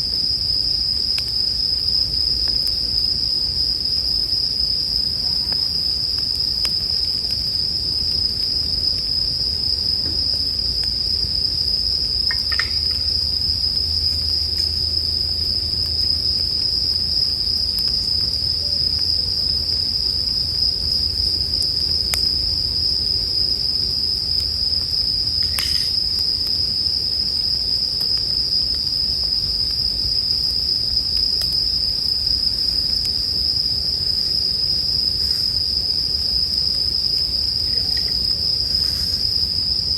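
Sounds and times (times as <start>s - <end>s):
crickets singing: 0.0s - 39.9s
faint campfire crackles: 0.0s - 39.9s.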